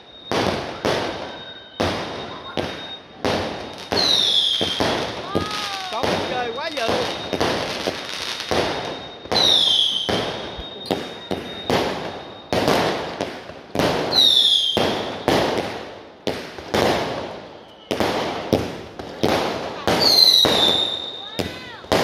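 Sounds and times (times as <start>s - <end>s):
firework shell whistle: 0.0s - 15.8s, 16.8s - 18.8s, 19.8s - 22.0s
fireworks bangs with echo: 0.0s - 22.0s.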